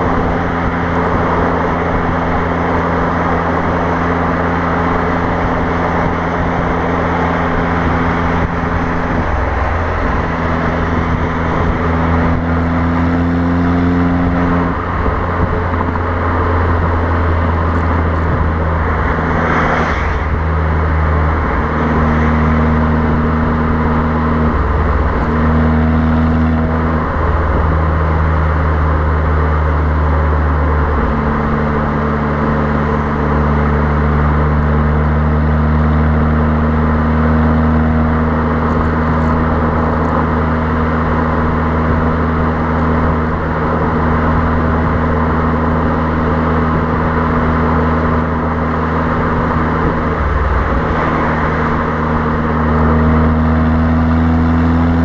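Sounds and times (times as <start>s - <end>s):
wind noise: 0.0s - 34.2s, 36.8s - 55.0s
car exhaust at steady cruise: 0.0s - 55.0s.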